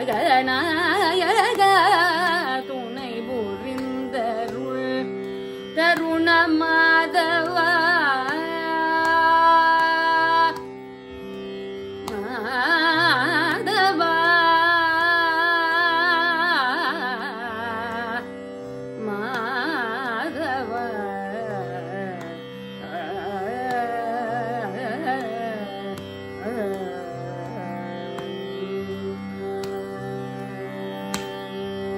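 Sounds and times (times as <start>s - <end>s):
woman singing: 0.0s - 10.8s, 12.0s - 18.4s, 19.0s - 31.9s
tanpura drone: 0.0s - 31.9s.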